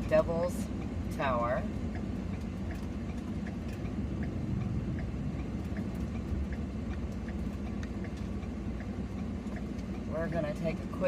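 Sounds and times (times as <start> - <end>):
road and engine rumble in van: 0.0 - 11.0
turn signal ticking: 0.0 - 11.0.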